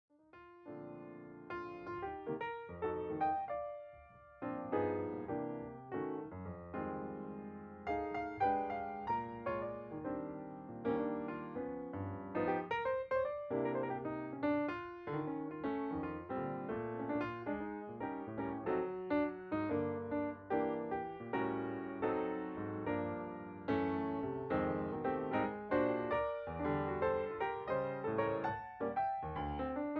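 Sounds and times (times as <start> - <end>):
gentle piano music: 0.2 - 29.9.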